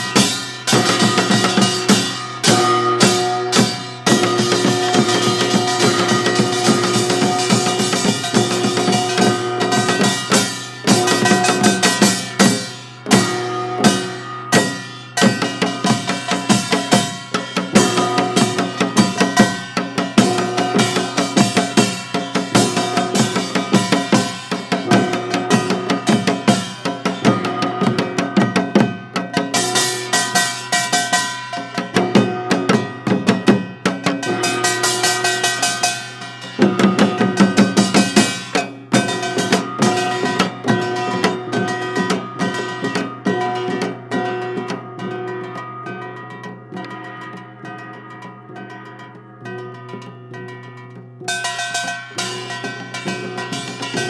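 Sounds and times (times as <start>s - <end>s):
band playing accented hits: 0.0s - 47.9s, 50.3s - 54.0s
rapid drum strikes: 0.0s - 48.0s, 51.2s - 54.0s.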